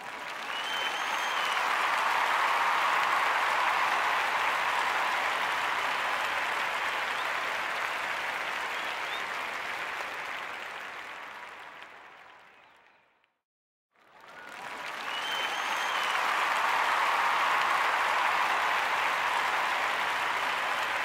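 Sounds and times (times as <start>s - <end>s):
people applauding: 0.0s - 13.2s, 14.0s - 21.0s.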